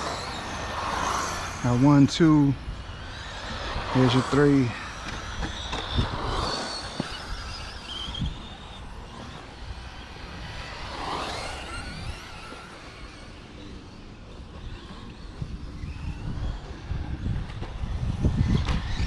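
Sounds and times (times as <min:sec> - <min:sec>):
rc truck motors whining: 0:00.0 - 0:19.0.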